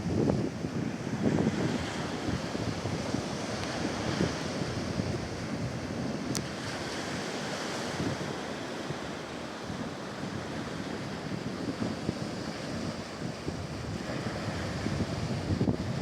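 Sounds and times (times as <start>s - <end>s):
ocean waves breaking: 0.0s - 16.0s
wind buffeting microphone: 0.0s - 16.0s.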